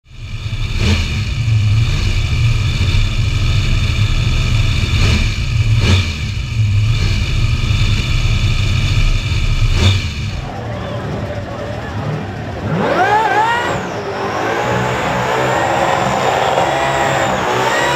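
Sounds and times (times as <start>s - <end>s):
engine rumbling at low revs: 0.0s - 17.9s
supercharger whine: 0.1s - 17.9s.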